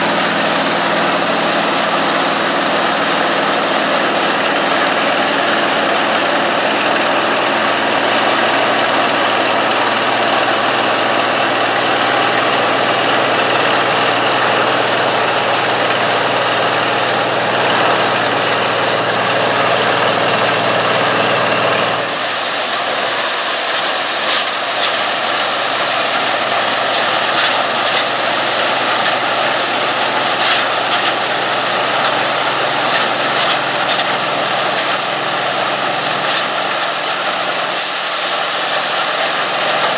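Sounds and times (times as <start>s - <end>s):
combine harvester droning: 0.0s - 39.9s
hissy machine sound: 0.0s - 39.9s.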